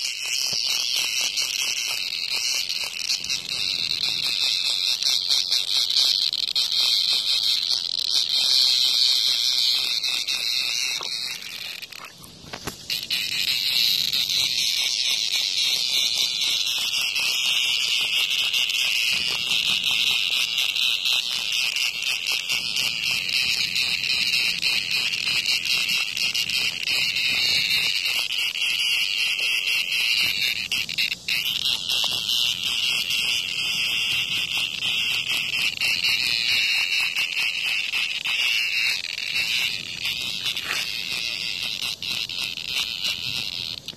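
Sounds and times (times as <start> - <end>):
cicada buzzing: 0.0 - 43.9.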